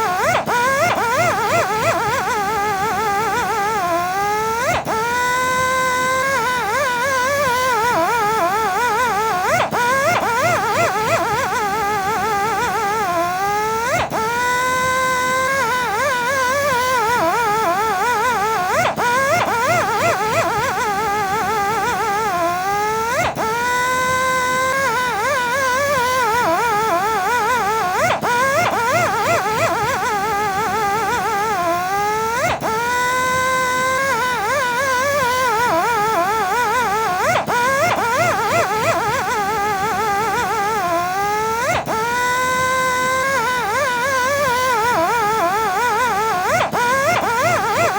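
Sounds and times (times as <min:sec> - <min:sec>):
polishing machine whining: 0:00.0 - 0:47.9.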